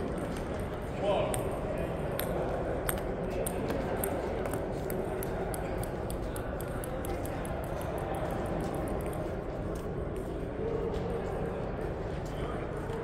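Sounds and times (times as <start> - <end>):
sports hall background noise: 0.0 - 13.0.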